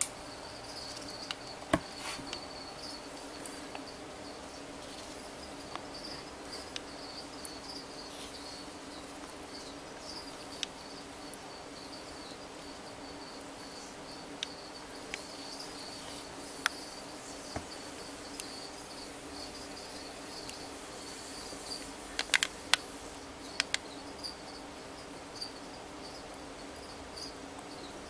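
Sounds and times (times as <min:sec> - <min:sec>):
high cricket-like trill: 0:00.0 - 0:28.0.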